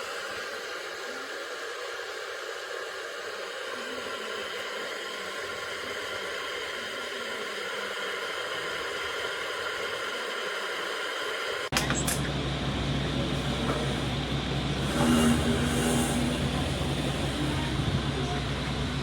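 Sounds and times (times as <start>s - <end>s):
electric kettle heating water: 0.0s - 15.6s.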